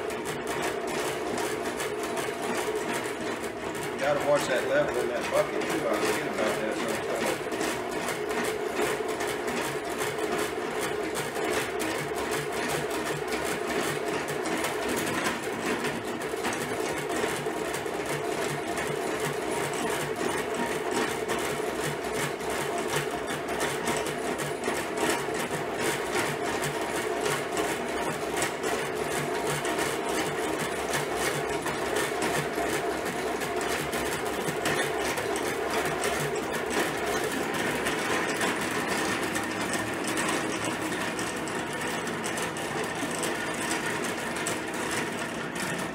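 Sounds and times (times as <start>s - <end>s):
hand-cranked extractor spinning: 0.0s - 45.9s.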